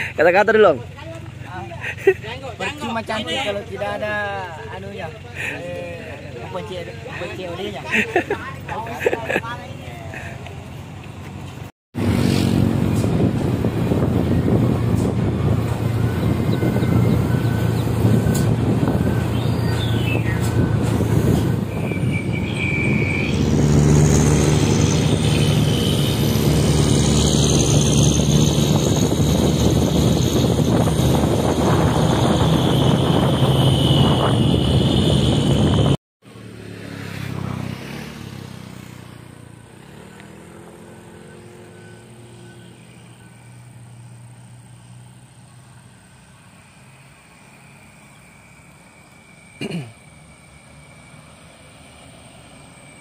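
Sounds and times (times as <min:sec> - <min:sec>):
distant truck engines: 0:00.0 - 0:53.0
road noise: 0:00.0 - 0:53.0
truck diesel engines running: 0:00.0 - 0:53.0.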